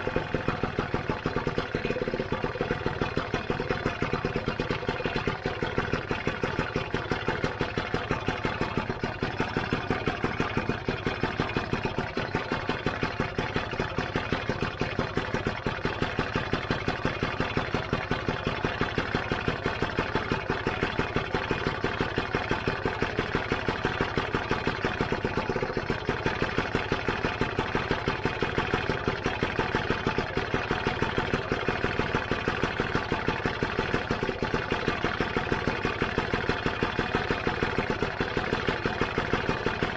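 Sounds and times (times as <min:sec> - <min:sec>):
scooter engine kick start: 0:00.0 - 0:39.9
two-stroke engine idling: 0:00.0 - 0:39.9.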